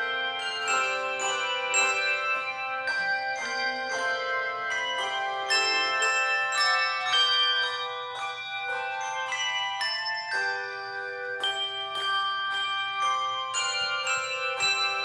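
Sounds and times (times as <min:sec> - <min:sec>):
handbell choir playing chords: 0:00.0 - 0:15.0.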